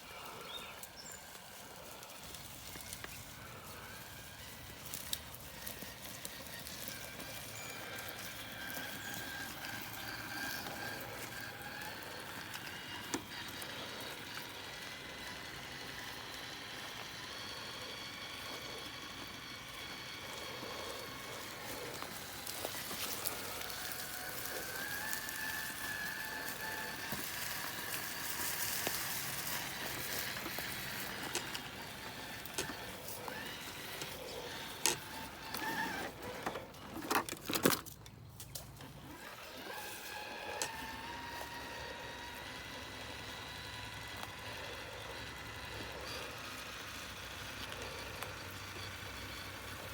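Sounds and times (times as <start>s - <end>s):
electric motor whining: 0.0s - 37.8s, 38.7s - 49.9s.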